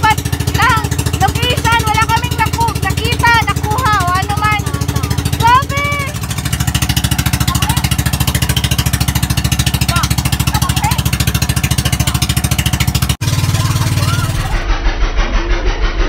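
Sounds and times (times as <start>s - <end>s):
engine running under load: 0.0s - 16.0s.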